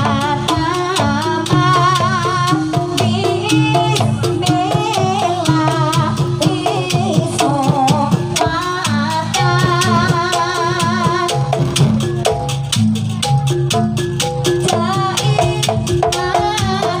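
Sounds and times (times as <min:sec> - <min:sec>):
fast percussion strikes: 0:00.0 - 0:17.0
wavering melody: 0:00.0 - 0:17.0.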